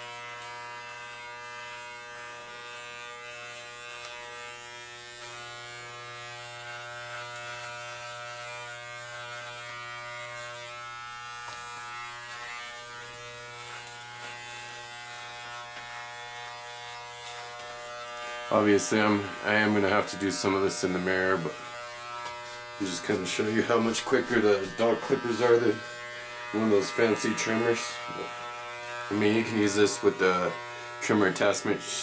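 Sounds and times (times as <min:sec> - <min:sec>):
electric clippers buzzing: 0:00.0 - 0:32.0.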